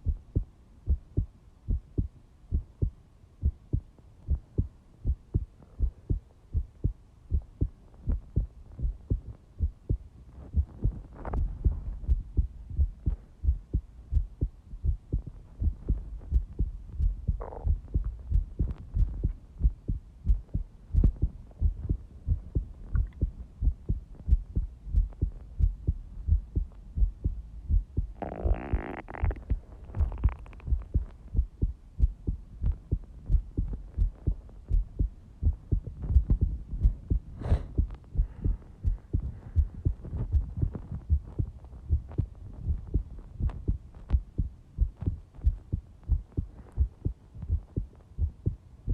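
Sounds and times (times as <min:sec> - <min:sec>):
heartbeat thumps: 0:00.0 - 0:48.9.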